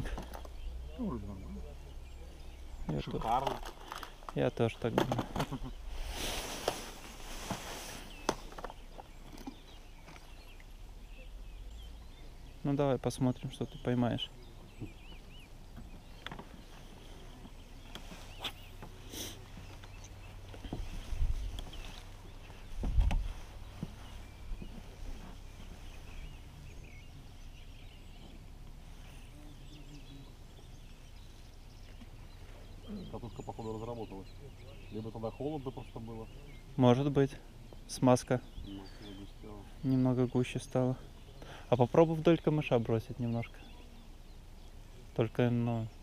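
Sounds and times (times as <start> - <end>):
birds chirping: 0.0 - 46.0.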